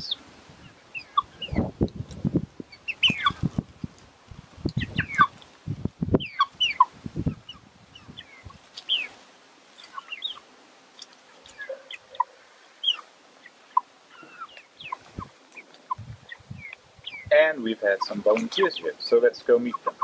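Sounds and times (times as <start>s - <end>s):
chicks clucking and chirping: 0.0s - 4.0s, 4.6s - 5.4s, 6.0s - 9.2s, 9.8s - 20.0s.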